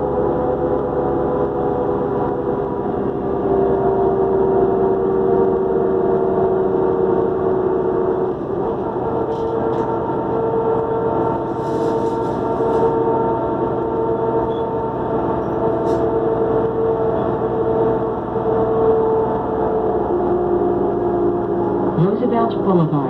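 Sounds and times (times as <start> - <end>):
bus diesel engine with turbo whine: 0.0 - 23.0.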